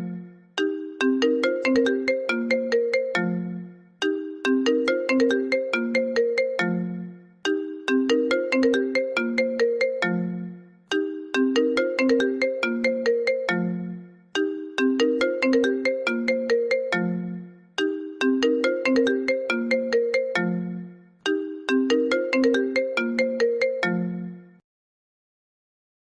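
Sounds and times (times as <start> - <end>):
phone ringtone melody: 0.0 - 24.6.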